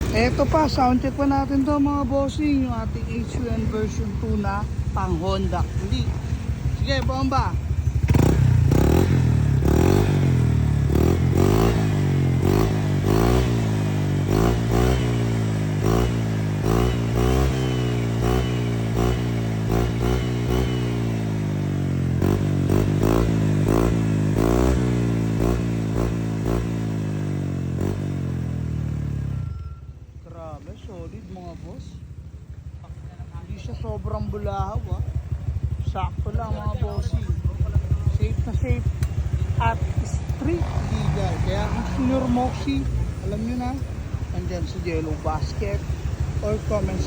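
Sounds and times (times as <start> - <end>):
scooter engine idling and revving: 0.0 - 47.0.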